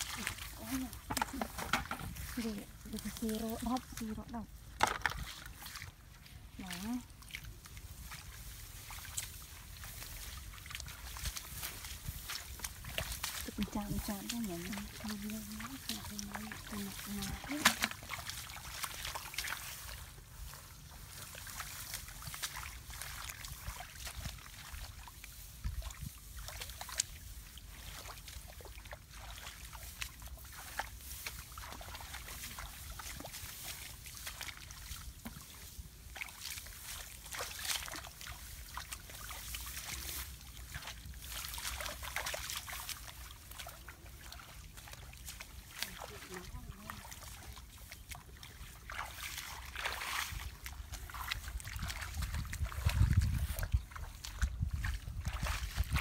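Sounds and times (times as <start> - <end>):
rustling in wet grass: 0.0 - 56.0
small water sloshes: 0.0 - 56.0.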